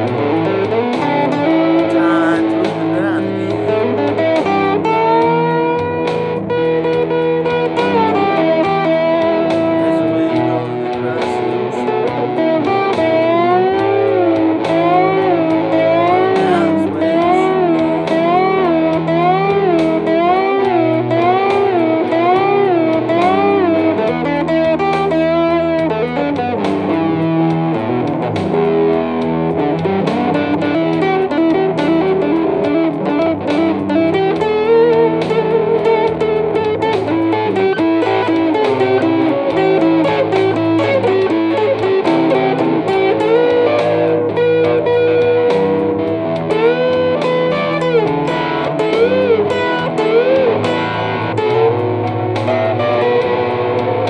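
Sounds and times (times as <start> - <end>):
electric guitar blues lead: 0.0 - 54.0.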